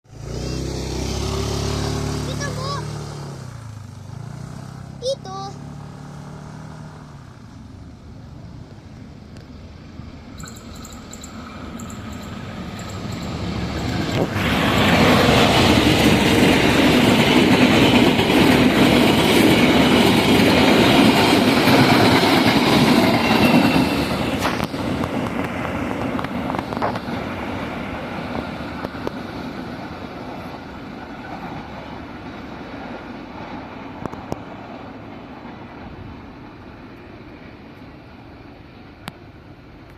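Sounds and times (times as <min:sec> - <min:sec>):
locomotive train passing: 0:00.1 - 0:39.9.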